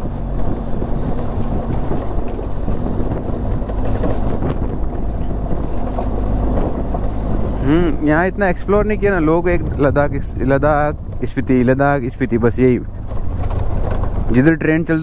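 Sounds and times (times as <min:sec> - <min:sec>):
wind on microphone: 0:00.0 - 0:14.4
low road rumble: 0:00.0 - 0:15.0
vehicle engine running: 0:00.0 - 0:15.0.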